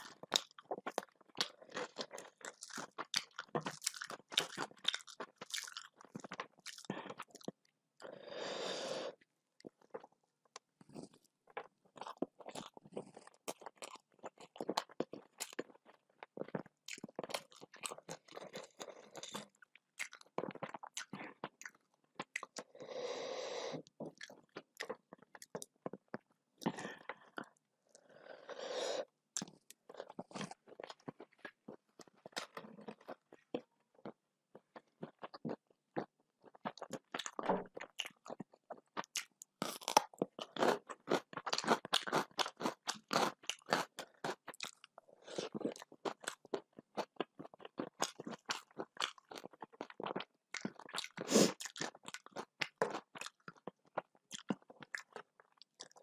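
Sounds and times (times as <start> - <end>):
wet chewing: 0.0 - 7.6, 10.8 - 22.7, 24.0 - 27.6, 29.4 - 56.0.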